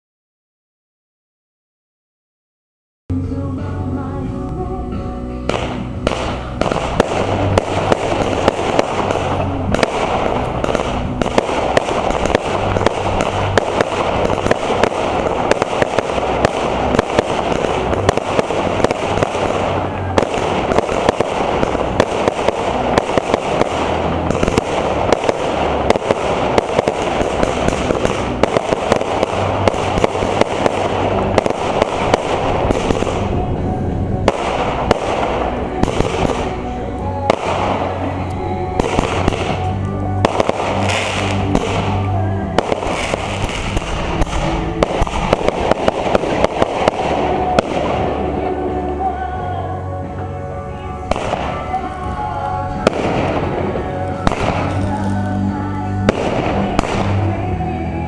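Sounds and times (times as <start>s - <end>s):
fireworks bangs and crackling: 5.5s - 58.0s.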